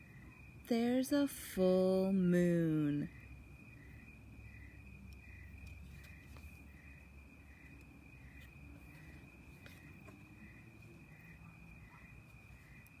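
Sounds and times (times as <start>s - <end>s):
cricket chirping: 0.0s - 13.0s
crickets trilling: 0.0s - 13.0s.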